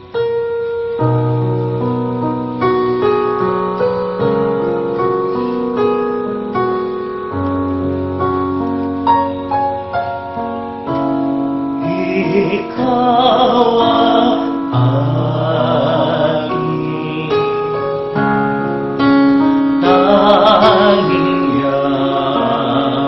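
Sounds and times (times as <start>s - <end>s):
keyboard playing piano chords: 0.0s - 23.0s.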